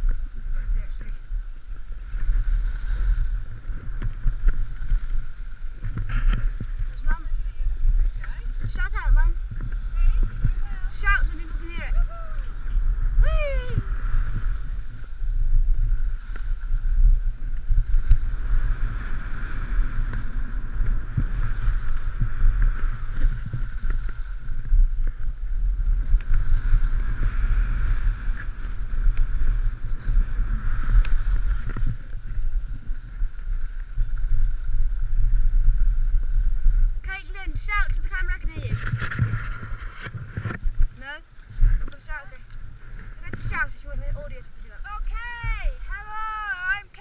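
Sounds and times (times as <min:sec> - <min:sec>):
skis scraping over snow: 0:00.0 - 0:44.8
wind buffeting microphone: 0:00.0 - 0:47.0.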